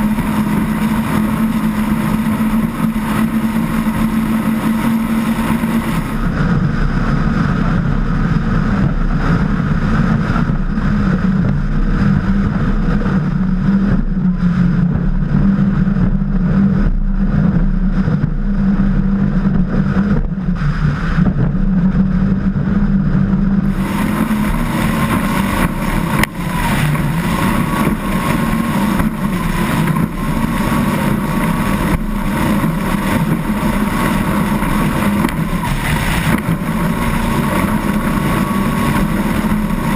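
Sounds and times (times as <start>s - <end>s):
powerboat engines running: 0.0s - 39.9s
wind and water rushing: 0.0s - 39.9s.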